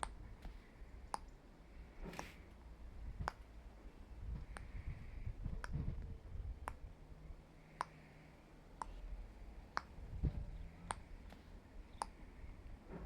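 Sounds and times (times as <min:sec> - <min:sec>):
faint low rumble: 0:00.0 - 0:13.0.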